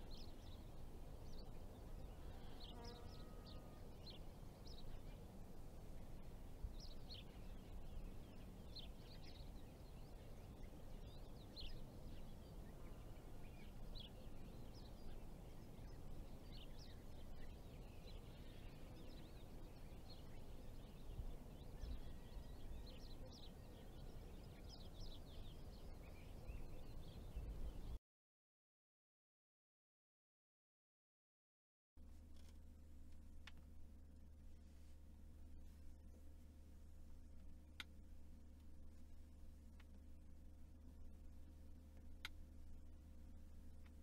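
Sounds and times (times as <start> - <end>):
low rumble of background noise: 0.0 - 28.0, 32.0 - 44.0.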